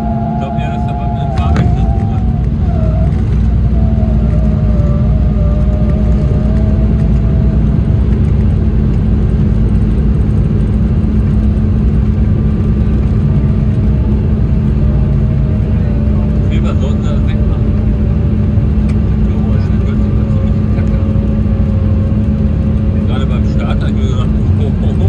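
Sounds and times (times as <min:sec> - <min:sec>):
jet cabin low rumble: 0:00.0 - 0:25.0
jet engine whine: 0:00.0 - 0:25.0.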